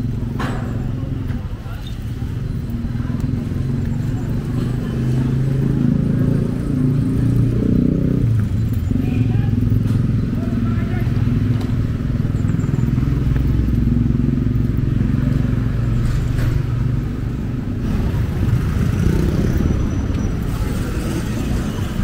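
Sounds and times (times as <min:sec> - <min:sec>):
engine humming nearby: 0:00.0 - 0:22.0
passing traffic: 0:00.0 - 0:22.0.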